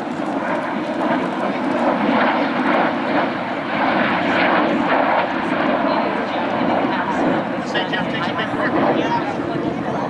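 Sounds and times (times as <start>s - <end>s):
jet bomber flying over: 0.0s - 10.0s.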